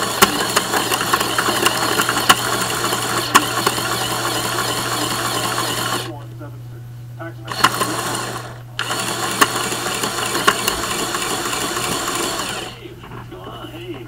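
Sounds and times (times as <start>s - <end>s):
plastic gears clattering: 0.0s - 6.1s, 7.5s - 12.8s
low steady hum: 0.1s - 9.9s, 10.7s - 14.0s.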